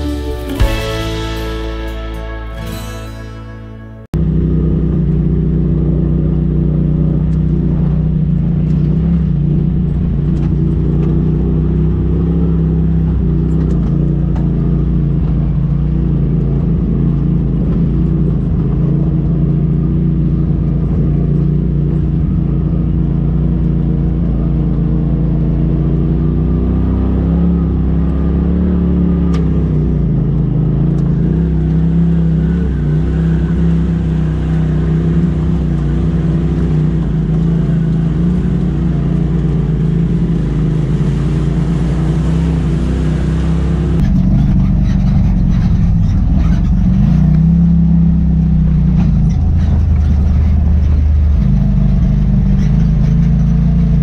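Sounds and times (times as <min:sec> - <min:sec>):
off-road vehicle engine running: 0:00.0 - 0:03.5, 0:04.1 - 0:54.0.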